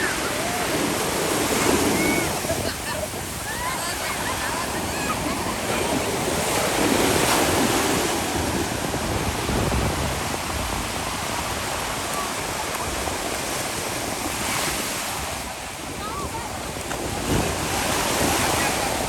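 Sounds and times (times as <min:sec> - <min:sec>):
ocean surf washing in: 0:00.0 - 0:19.0
wind on microphone: 0:00.0 - 0:19.0.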